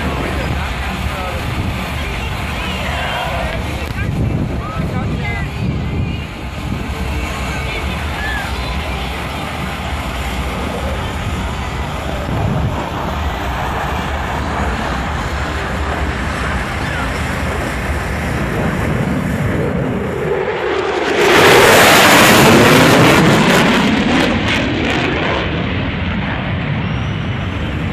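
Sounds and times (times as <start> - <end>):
aircraft engine roar overhead: 0.0 - 27.9.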